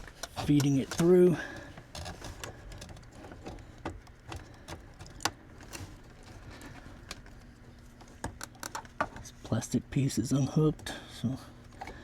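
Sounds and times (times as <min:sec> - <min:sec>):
light clicks and rustles of wiring: 0:00.0 - 0:12.0.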